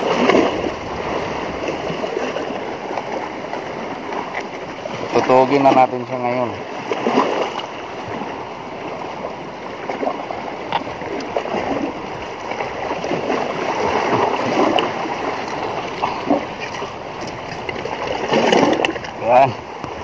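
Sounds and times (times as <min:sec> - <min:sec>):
sea water splashing against rocks: 0:00.0 - 0:20.0.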